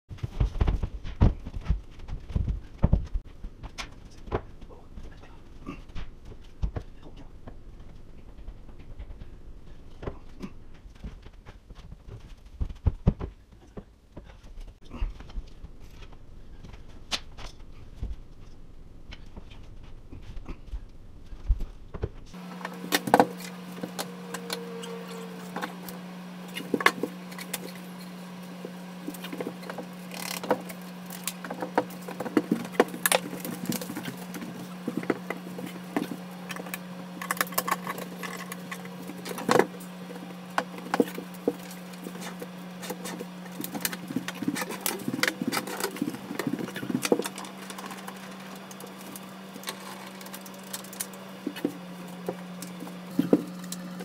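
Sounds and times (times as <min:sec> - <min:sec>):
steady low hum: 0:00.1 - 0:54.0.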